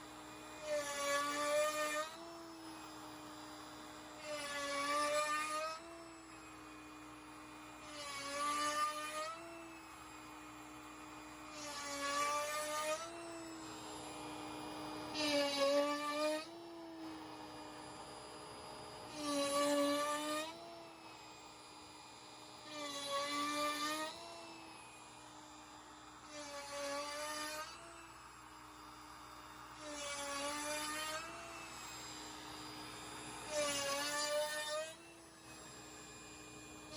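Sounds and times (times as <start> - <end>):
router bit carving wood: 0.0 - 36.9
router spindle high whine: 0.0 - 36.9.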